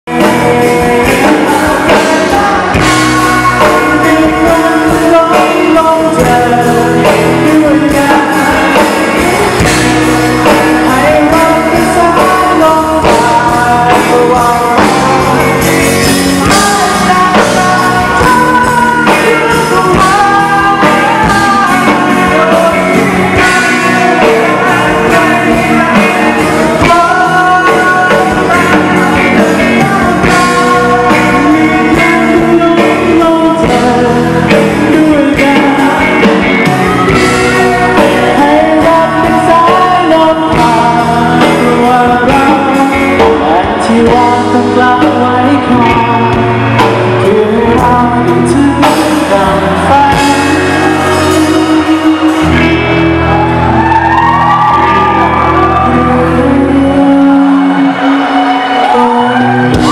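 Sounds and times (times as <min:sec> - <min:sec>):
man singing: 0:00.0 - 0:59.9
live rock band playing: 0:00.1 - 0:59.9.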